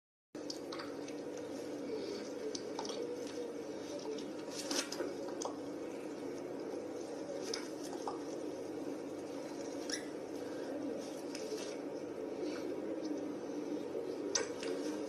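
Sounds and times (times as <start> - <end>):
steady background hum: 0.4 - 15.0.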